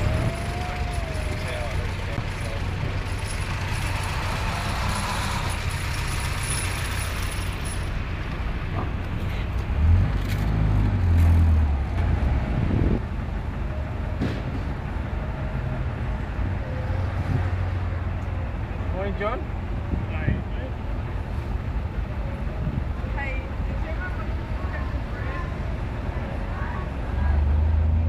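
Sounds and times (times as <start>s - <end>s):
jeep engine low rumble: 0.0s - 28.0s.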